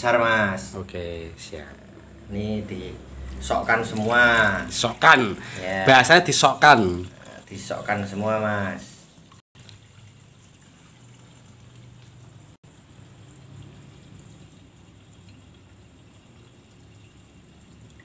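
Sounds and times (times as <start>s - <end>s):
liquid trickling into plastic container: 3.1s - 18.0s.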